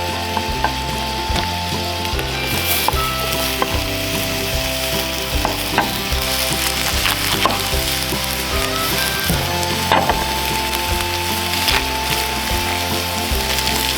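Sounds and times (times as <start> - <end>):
food frying with pops: 0.0 - 13.9.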